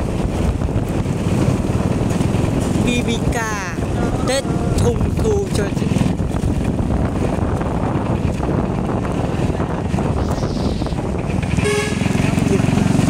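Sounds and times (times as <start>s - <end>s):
motorbike engine rumble: 0.0s - 13.0s
wind buffeting microphone: 0.0s - 13.0s.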